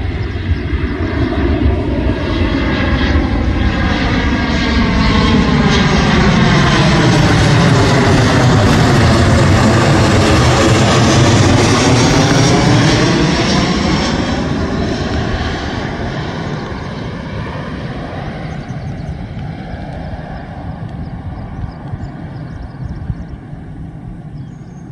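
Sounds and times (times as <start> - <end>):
jet airliner passing overhead: 0.0 - 24.9.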